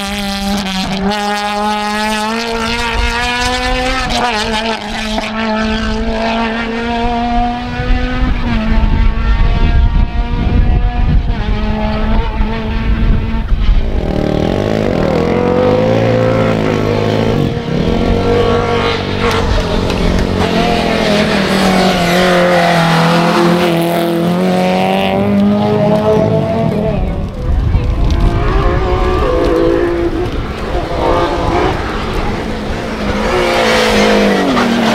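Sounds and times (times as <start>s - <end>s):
rally car engines revving: 0.0s - 34.9s
wind rumbling on microphone: 0.0s - 34.9s.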